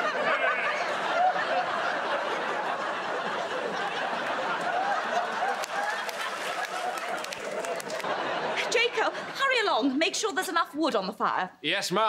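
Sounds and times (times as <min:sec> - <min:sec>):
studio audience laughing: 0:00.0 - 0:10.2.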